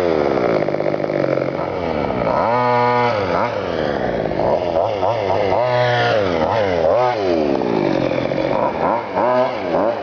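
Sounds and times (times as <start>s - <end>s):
rc car engine revving: 0.0s - 10.0s.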